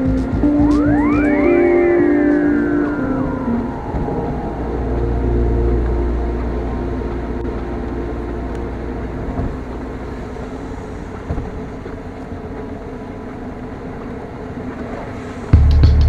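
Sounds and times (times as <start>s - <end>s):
car driving on wet road: 2.2s - 15.7s.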